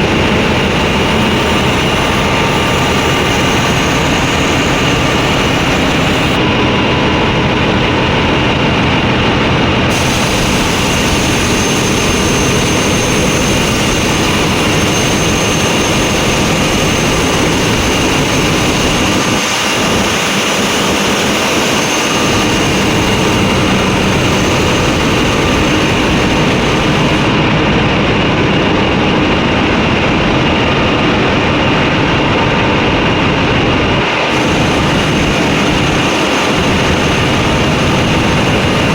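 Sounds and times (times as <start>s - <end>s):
thin high whine: 0.0s - 9.0s, 9.7s - 27.6s, 34.0s - 38.9s
industrial machinery noise: 0.0s - 38.9s.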